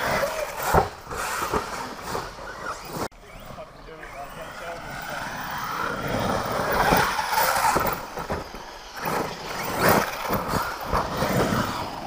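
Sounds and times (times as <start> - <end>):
rc truck motor revving: 0.0 - 12.0.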